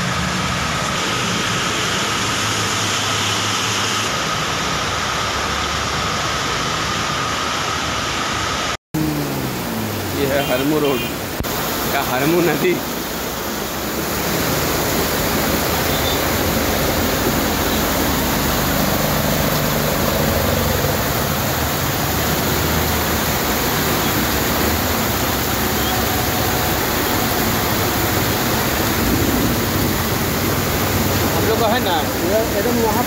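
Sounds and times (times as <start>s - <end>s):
floodwater rushing across road: 0.0s - 33.0s
heavy rain: 0.0s - 33.0s.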